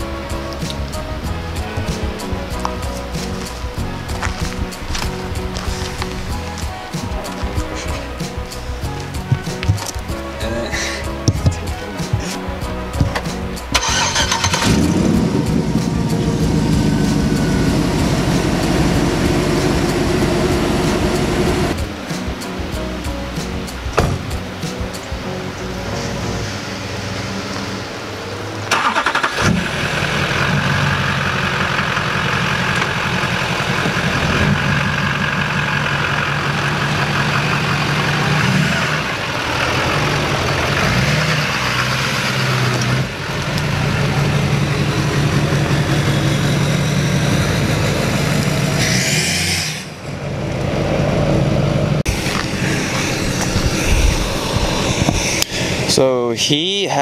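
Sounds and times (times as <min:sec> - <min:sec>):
truck engine starting and running: 0:00.0 - 0:57.0.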